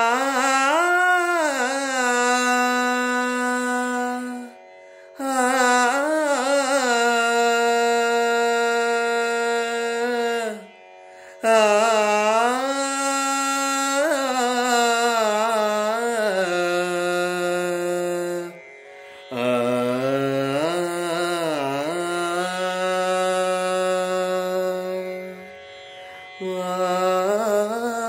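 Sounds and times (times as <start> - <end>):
man singing without words: 0.0 - 4.6, 5.2 - 10.7, 11.4 - 18.6, 19.3 - 25.5, 26.4 - 28.0.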